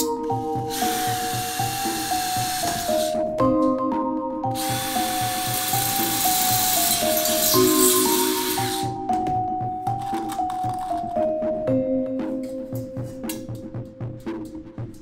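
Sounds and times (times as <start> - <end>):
background music with steady beat: 0.0 - 15.0.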